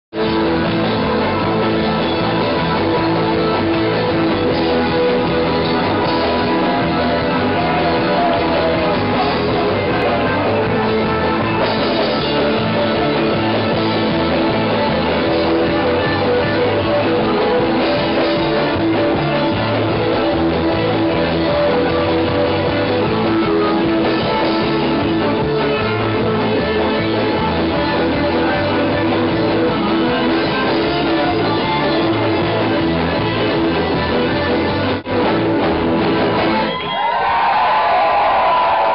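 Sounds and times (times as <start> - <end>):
live band playing punk music: 0.1 - 38.9.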